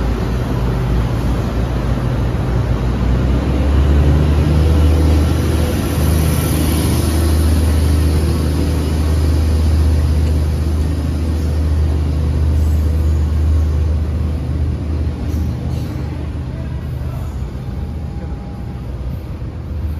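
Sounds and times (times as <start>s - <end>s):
rushing noise of passing train: 0.0s - 19.9s
train engines droning: 0.0s - 19.9s.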